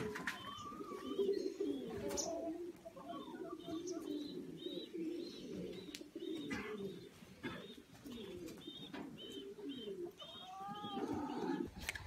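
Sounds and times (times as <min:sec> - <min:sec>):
pigeons cooing: 0:00.0 - 0:12.0
bird chirping: 0:00.2 - 0:11.7.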